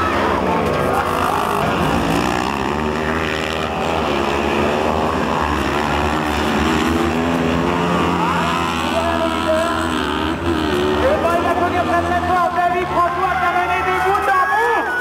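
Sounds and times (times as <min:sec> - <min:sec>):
buggy engines revving: 0:00.0 - 0:15.0.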